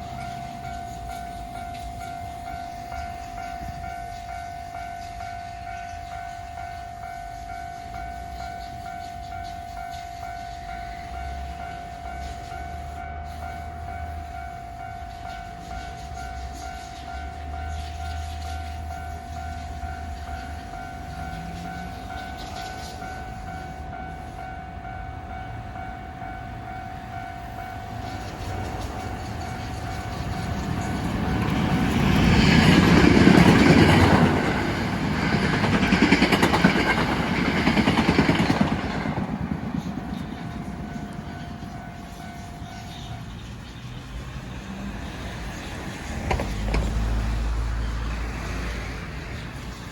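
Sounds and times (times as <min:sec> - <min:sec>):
level crossing alarm ringing: 0:00.0 - 0:43.7
electric train passing: 0:00.0 - 0:49.9.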